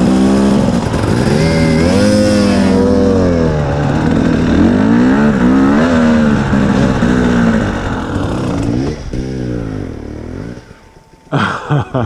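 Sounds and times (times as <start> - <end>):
dirt bike engine revving: 0.0 - 11.7.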